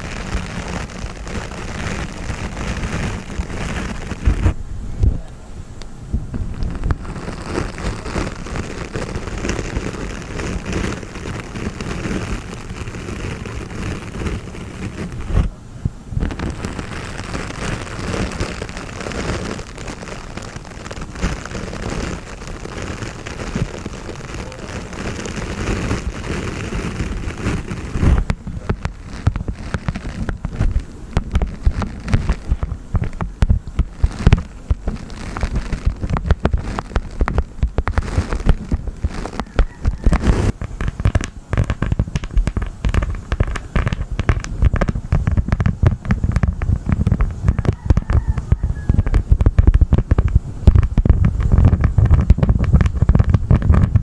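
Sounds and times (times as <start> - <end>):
honeycomb wax crackling: 0.0 - 4.6, 6.3 - 54.0.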